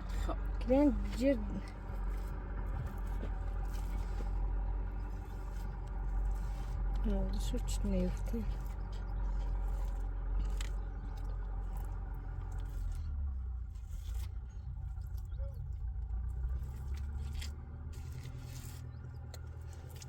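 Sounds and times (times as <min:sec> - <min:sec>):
tractor engine drone: 0:00.0 - 0:20.0
scraping and clicking: 0:01.0 - 0:20.0.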